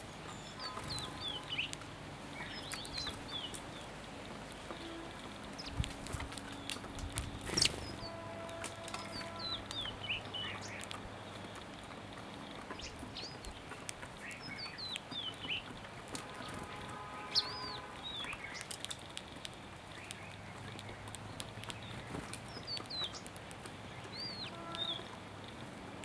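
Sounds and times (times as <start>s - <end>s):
small songbirds chirping: 0.0s - 26.0s
faint clicks: 0.6s - 16.4s, 18.0s - 26.0s.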